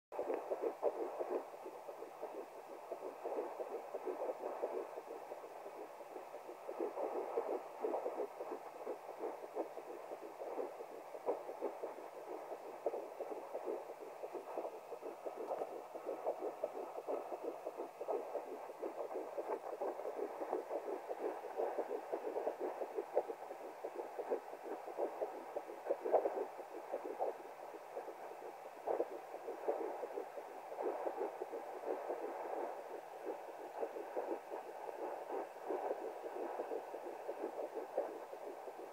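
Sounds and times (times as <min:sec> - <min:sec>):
fetal heartbeat through doppler: 0:00.2 - 0:38.9.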